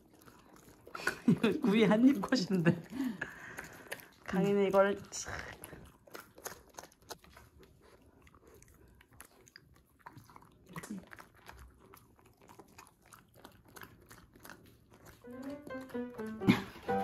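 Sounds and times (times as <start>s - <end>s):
dog chewing a stick: 0.0s - 17.0s.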